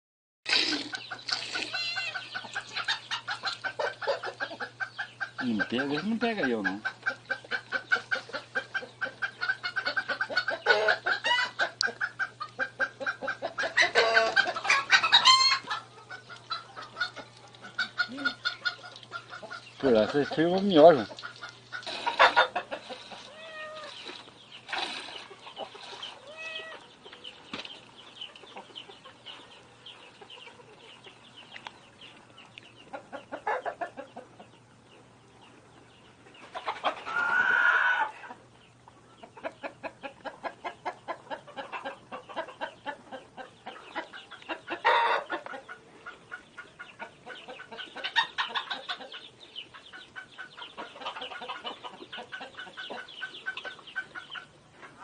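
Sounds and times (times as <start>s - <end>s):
chickens clucking: 0.5s - 55.0s.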